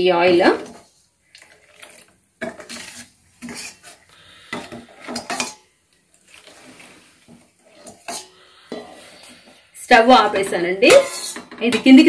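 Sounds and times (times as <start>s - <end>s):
ladle scraping steel bowl: 0.2s - 9.6s, 10.2s - 11.6s.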